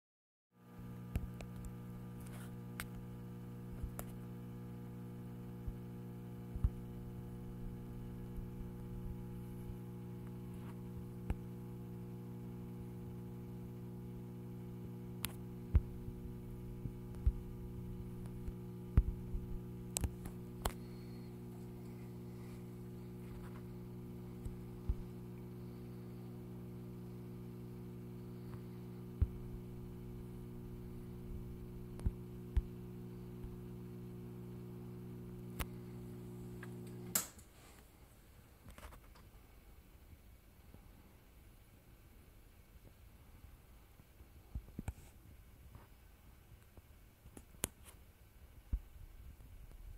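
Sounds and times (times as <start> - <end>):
electrical mains hum: 0.6 - 49.9.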